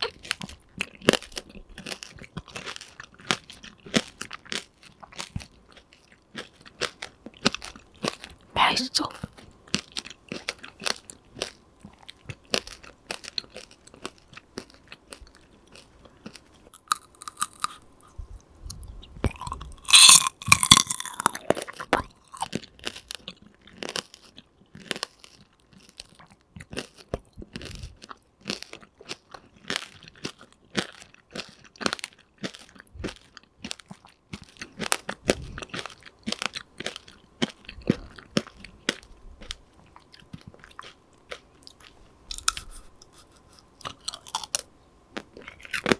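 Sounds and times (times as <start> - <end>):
candy crunching between teeth: 0.0 - 45.9.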